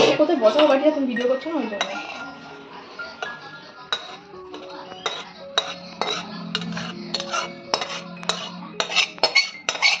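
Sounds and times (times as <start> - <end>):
metal spatula scraping metal pan: 0.0 - 10.0.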